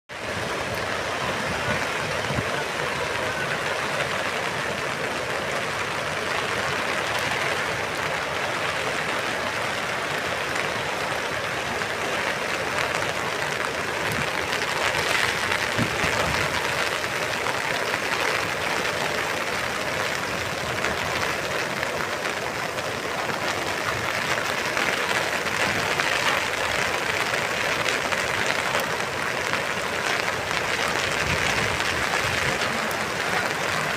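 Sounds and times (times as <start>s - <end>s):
floodwater rushing: 0.1s - 33.9s.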